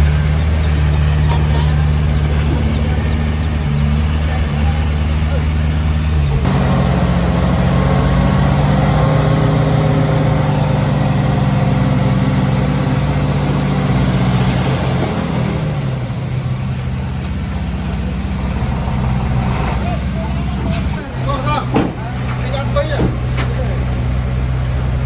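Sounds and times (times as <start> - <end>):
heavy diesel engine under load: 0.0 - 25.0.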